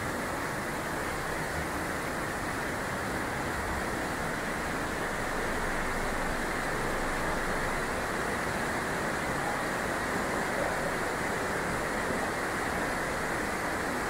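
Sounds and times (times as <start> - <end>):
waterfall and stream rushing: 0.0 - 14.0.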